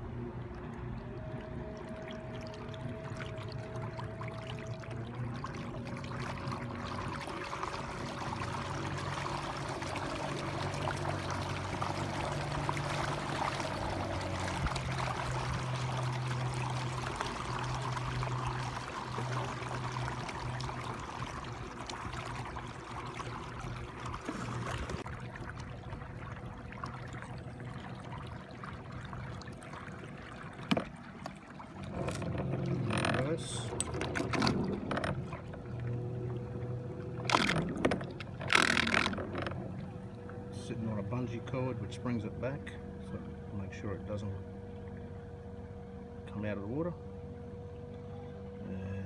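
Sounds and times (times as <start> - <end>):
water rushing along a hull: 0.0 - 49.0.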